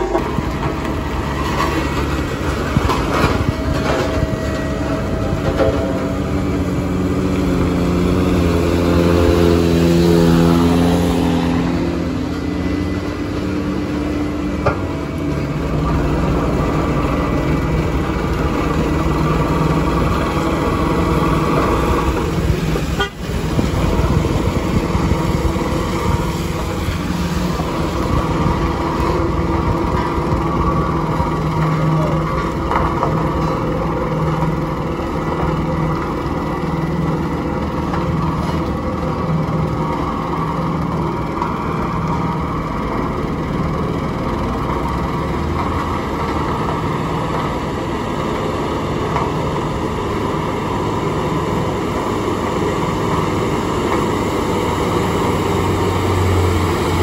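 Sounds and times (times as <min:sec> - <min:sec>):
road roller diesel engine: 0:00.0 - 0:57.0
steady engine drone: 0:00.0 - 0:57.0
vehicles climbing: 0:00.0 - 0:57.0.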